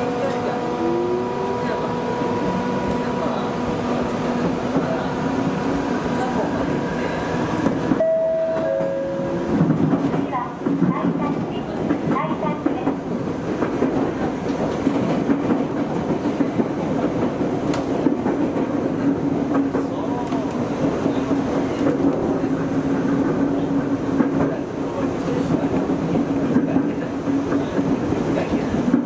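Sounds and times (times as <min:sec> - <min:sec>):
steady train hum: 0:00.0 - 0:29.0
train wheels rumbling on rail: 0:00.0 - 0:29.0.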